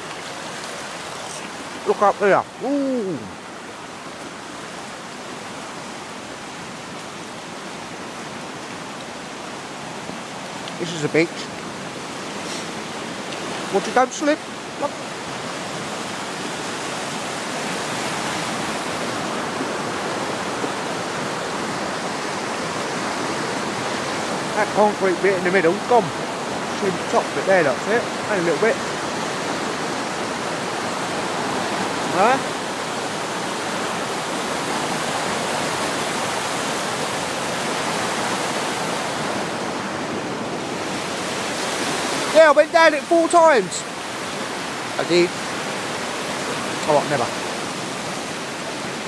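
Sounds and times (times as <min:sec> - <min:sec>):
river rushing whitewater: 0:00.0 - 0:49.0.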